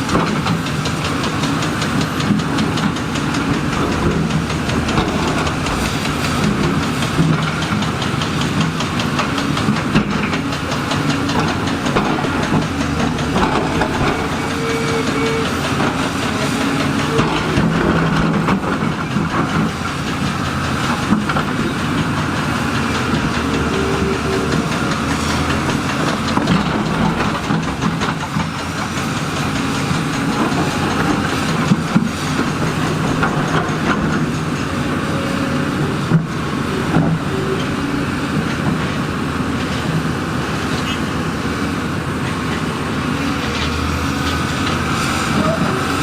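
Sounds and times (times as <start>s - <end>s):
diesel engine under load: 0.0s - 46.0s
metallic track clatter: 0.0s - 46.0s
sharp knocks: 0.2s - 38.9s.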